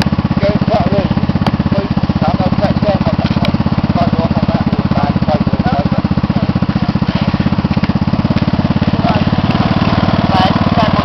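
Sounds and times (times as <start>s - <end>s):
buggy engine idling: 0.0s - 11.0s.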